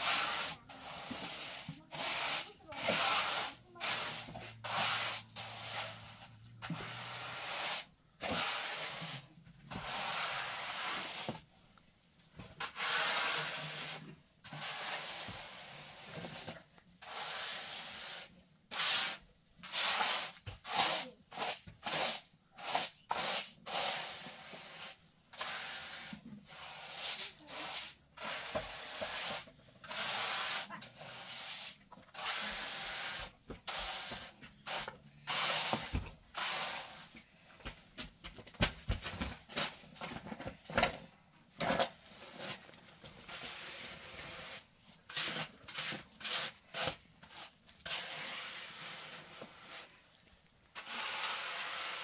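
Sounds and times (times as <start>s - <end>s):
trowel scraping cement: 0.0s - 11.5s, 12.4s - 52.0s.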